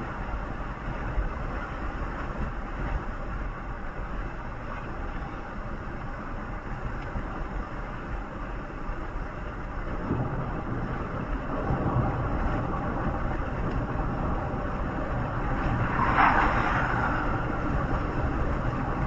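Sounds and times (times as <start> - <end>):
vehicle road and engine noise: 0.0 - 19.0.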